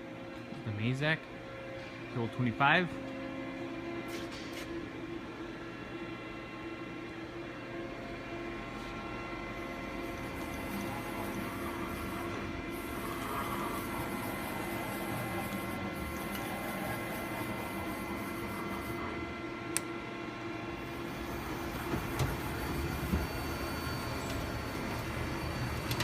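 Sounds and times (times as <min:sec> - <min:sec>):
lathe humming and whining: 0:00.0 - 0:26.0.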